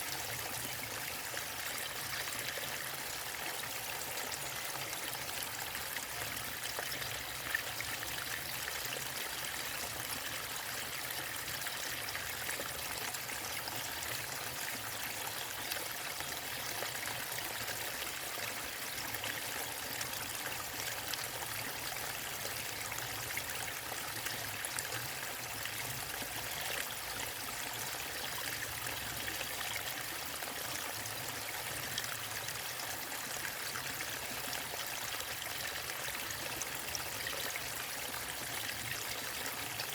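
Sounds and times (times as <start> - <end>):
small water splashes and trickles: 0.0 - 39.9.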